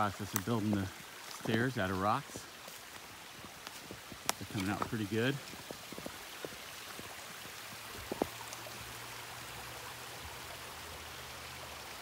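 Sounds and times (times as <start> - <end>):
stream running water: 0.0 - 12.0.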